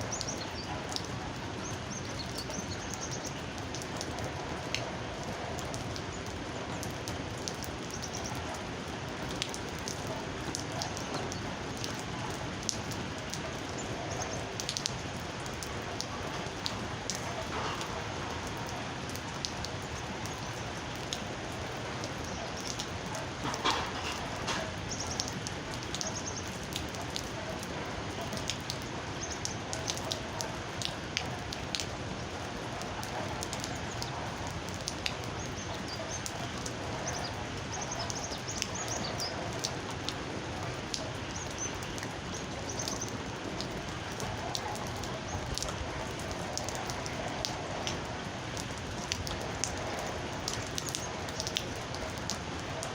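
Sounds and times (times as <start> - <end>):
steady rain falling: 0.0 - 52.9
drips ticking: 0.1 - 52.8.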